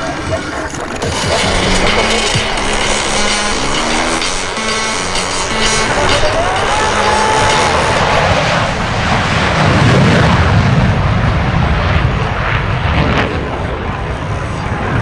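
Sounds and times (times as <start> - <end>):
airplane flying past: 0.0 - 15.0.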